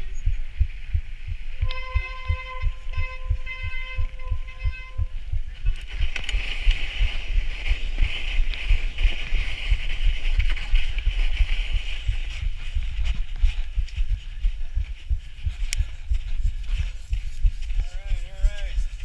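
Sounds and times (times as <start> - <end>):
muffled knocking and rumbling: 0.0 - 19.0.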